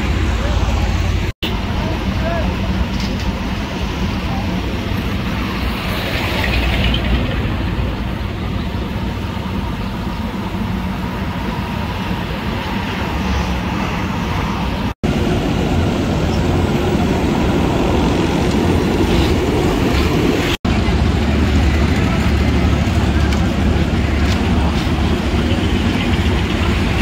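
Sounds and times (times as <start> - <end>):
asphalt paver diesel engine: 0.0 - 27.0.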